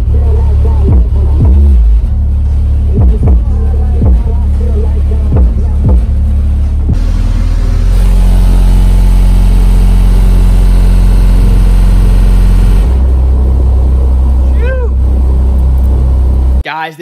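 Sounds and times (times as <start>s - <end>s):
bass-heavy music through subwoofer: 0.0s - 16.6s.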